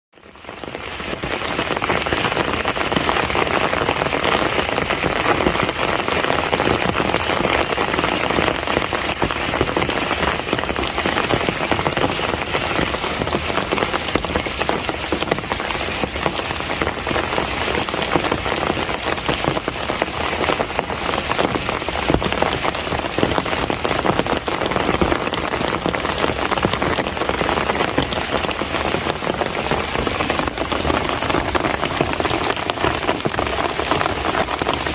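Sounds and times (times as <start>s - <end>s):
heavy rain: 0.1s - 34.9s
raindrops pattering on surfaces: 0.2s - 34.9s.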